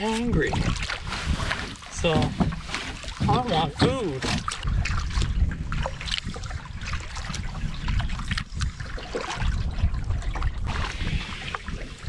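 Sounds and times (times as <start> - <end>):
paddle water splashing and dripping: 0.0 - 12.0
wind rumble on microphone: 0.0 - 12.0.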